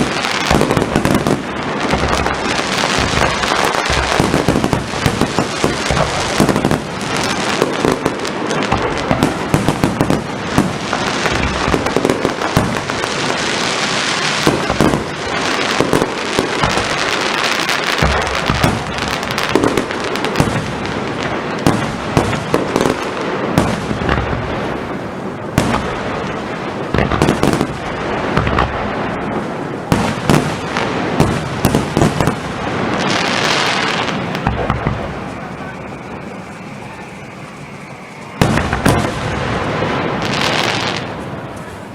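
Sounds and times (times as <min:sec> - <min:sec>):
fireworks banging and crackling: 0:00.0 - 0:41.9.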